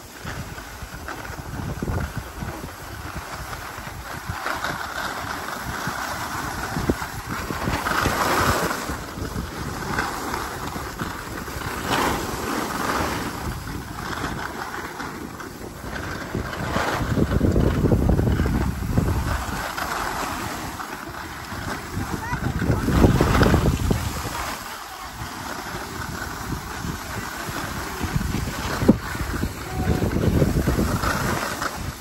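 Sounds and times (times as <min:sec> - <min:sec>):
skis scraping over snow: 0:00.0 - 0:32.0
wind on microphone: 0:00.0 - 0:32.0.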